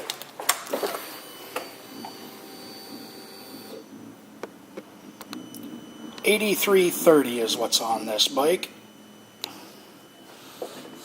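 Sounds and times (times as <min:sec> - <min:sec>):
electric fuel pump whirring: 0:00.0 - 0:11.0.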